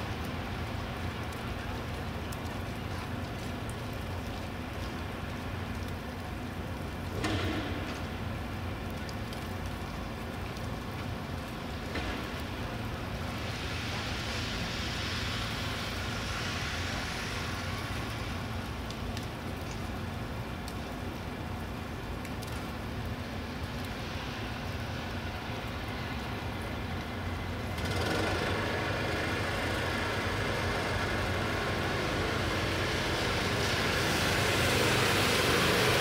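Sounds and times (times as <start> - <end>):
low traffic hum: 0.0 - 36.0
tyres hissing on slushy street: 0.0 - 36.0.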